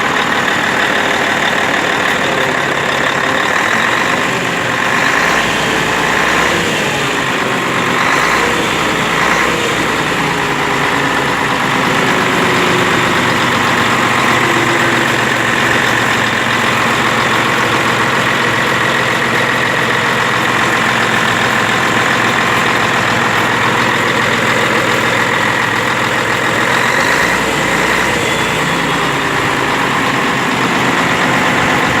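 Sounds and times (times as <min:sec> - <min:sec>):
truck diesel engine idling: 0:00.0 - 0:32.0.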